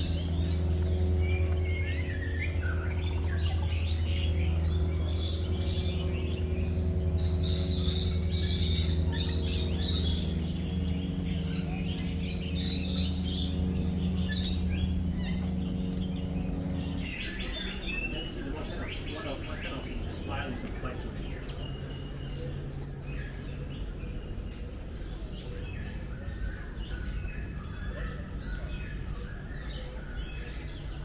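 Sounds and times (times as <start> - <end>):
low mechanical hum: 0.0 - 31.0
songbirds chirping: 0.0 - 31.0.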